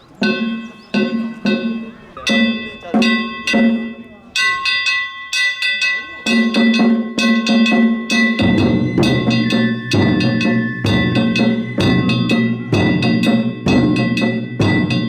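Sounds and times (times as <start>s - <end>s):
hand gongs ringing: 0.2s - 15.0s
taiko drums: 0.2s - 15.0s.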